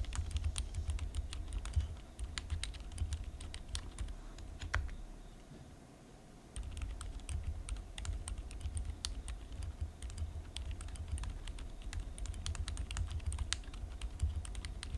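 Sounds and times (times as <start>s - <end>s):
mechanical keyboard typing: 0.0s - 5.0s, 6.6s - 14.9s.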